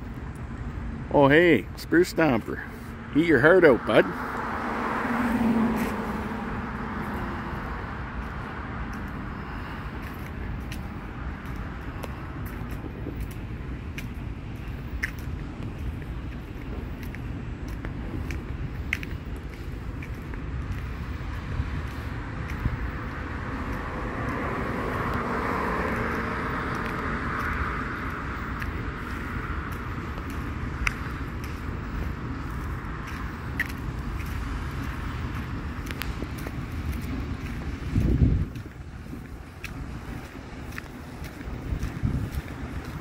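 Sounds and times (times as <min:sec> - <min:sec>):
vehicle passing: 0:00.0 - 0:43.0
wind rumbling on microphone: 0:00.0 - 0:43.0.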